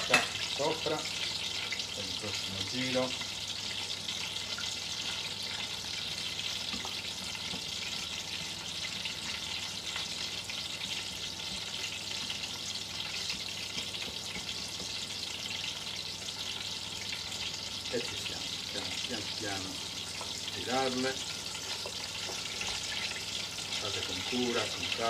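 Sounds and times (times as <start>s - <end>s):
vegetables sizzling in oil: 0.0s - 25.0s
spatula stirring in a pan: 3.1s - 25.0s.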